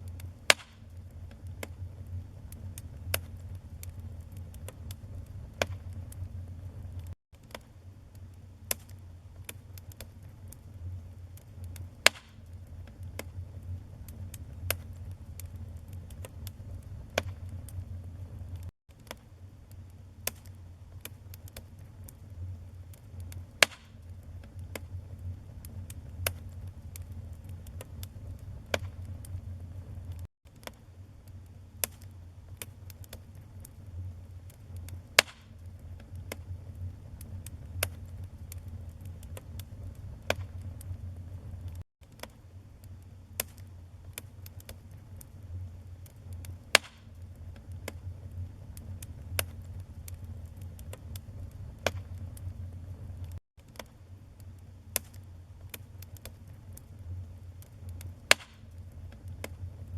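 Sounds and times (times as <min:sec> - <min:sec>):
flames fluttering: 0:00.0 - 0:59.9
wood fire crackling and popping: 0:00.0 - 0:59.9.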